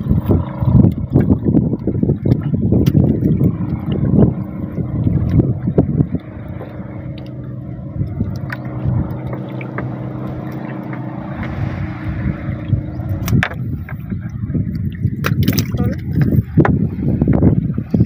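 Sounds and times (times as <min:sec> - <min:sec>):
boat engine running at low revs: 0:00.0 - 0:18.0.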